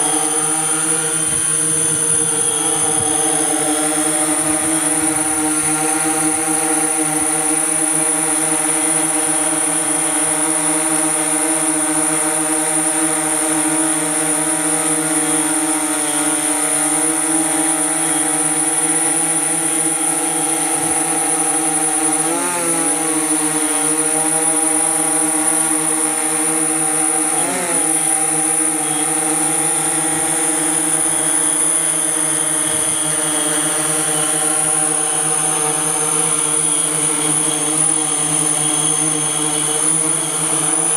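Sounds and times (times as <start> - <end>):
drone rotors humming: 0.0 - 40.9.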